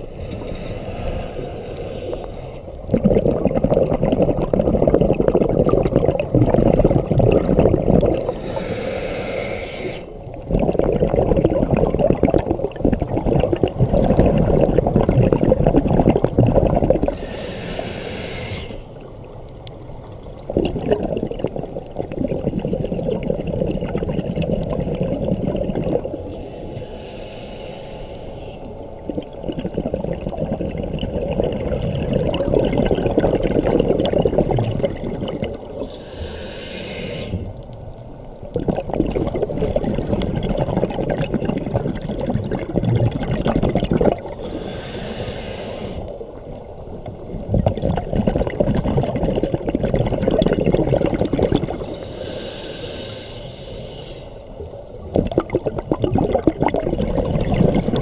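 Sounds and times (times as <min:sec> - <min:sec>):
exhaled air bubbling: 0:00.0 - 0:58.0.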